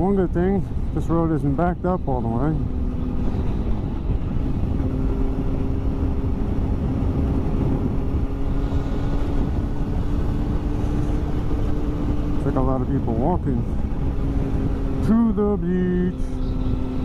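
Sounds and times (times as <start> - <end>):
motorcycle engine hum: 0.0 - 17.0
wind rumble on microphone: 0.0 - 17.0.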